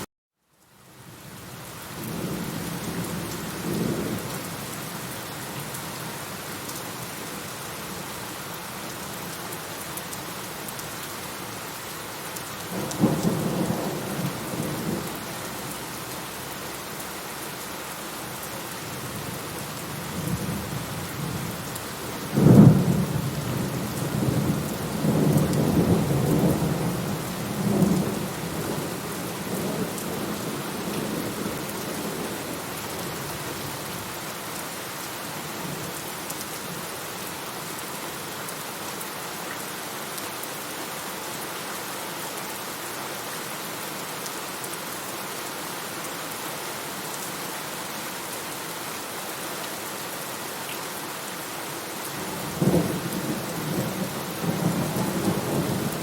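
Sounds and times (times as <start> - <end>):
steady rain: 0.4 - 56.0.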